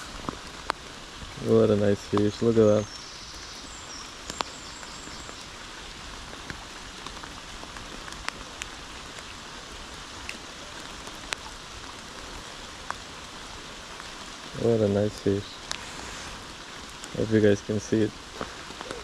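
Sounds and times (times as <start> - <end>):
heavy rain hissing: 0.0 - 19.0
raindrops ticking close by: 0.0 - 19.0.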